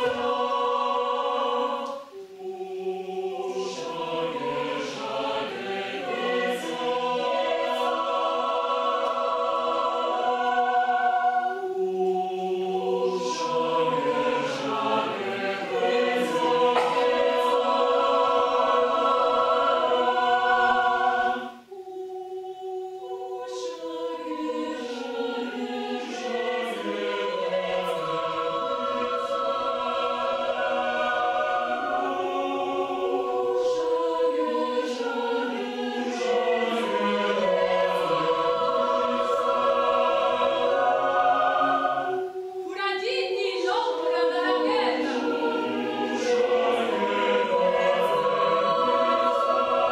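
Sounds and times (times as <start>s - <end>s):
mixed choir singing: 0.0s - 49.9s.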